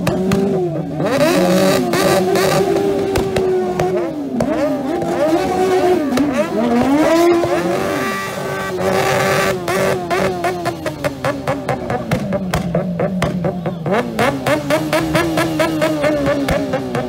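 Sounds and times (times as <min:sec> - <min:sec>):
quad bike engine high-revving: 0:00.0 - 0:17.0.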